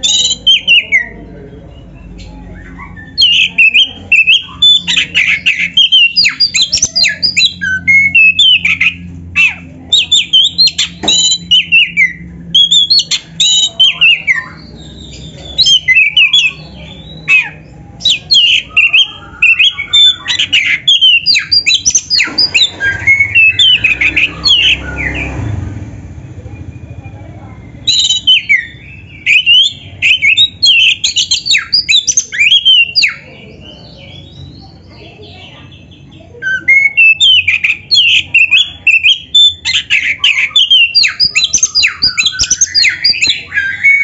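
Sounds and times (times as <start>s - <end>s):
magpie-robin singing: 0.0s - 25.5s, 26.5s - 44.0s.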